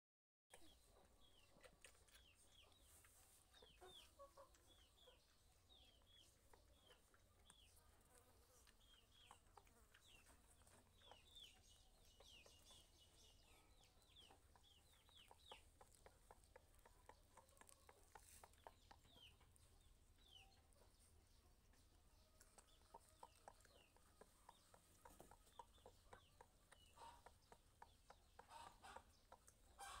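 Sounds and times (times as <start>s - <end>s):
chicks peeping: 0.5s - 30.0s.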